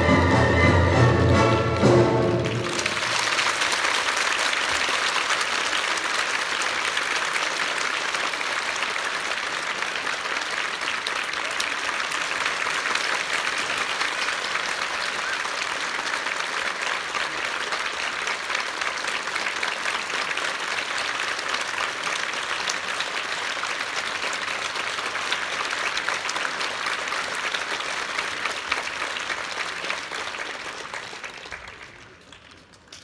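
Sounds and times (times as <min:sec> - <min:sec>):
audience applauding: 0:01.0 - 0:33.0.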